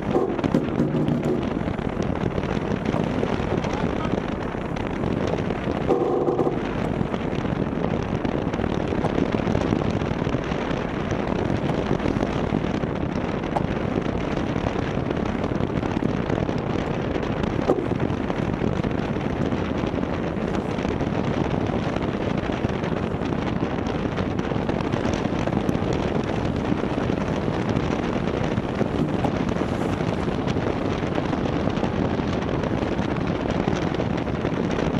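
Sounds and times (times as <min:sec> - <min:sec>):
water rushing along hull: 0:00.0 - 0:34.9
wind across microphone: 0:00.0 - 0:34.9.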